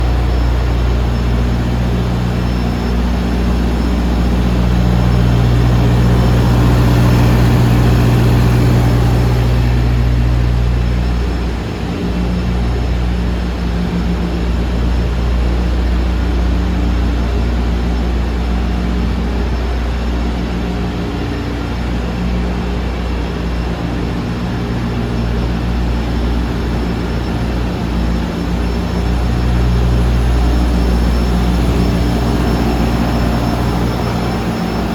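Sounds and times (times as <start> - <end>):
diesel lorry engine idling: 0.0 - 34.9.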